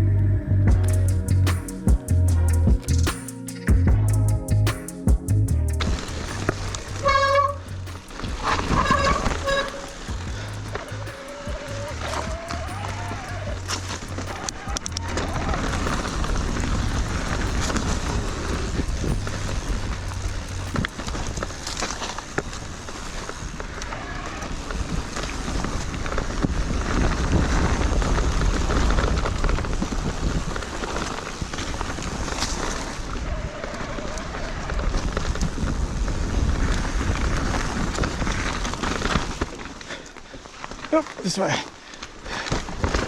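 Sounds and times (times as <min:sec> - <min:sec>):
tyre and wind rushing: 0:00.7 - 0:43.0
wind rumble on microphone: 0:03.7 - 0:39.8
bike knocking and rattling: 0:05.0 - 0:43.0.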